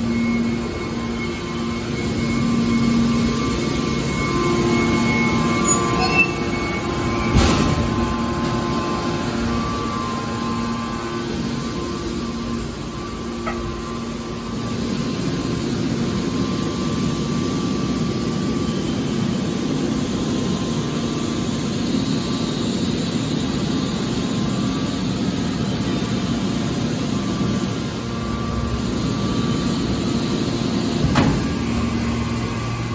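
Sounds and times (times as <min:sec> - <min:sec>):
hydraulic power unit running: 0:00.0 - 0:32.9.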